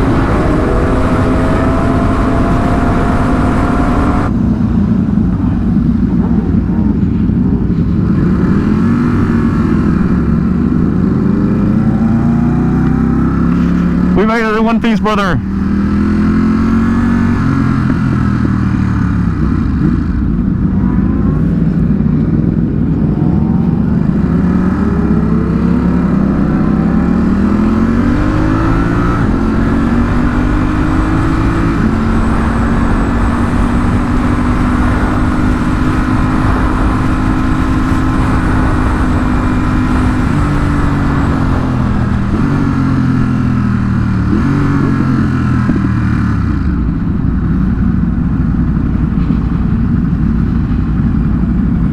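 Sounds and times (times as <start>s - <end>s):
motorcycle engine shifting gears: 0.0s - 14.2s, 15.4s - 51.9s.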